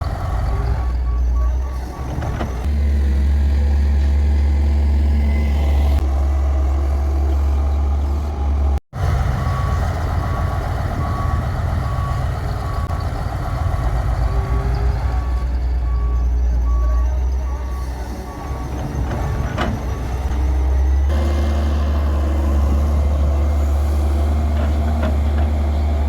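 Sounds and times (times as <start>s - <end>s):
reversing alarm beeping: 0.0s - 24.1s
diesel engine running: 0.0s - 26.0s.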